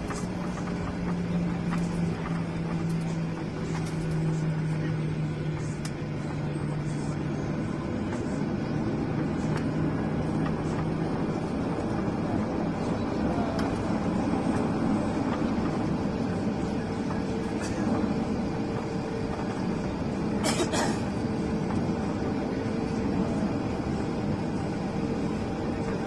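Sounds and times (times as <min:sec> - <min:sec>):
jet engine rumble and hiss: 0:00.0 - 0:26.0.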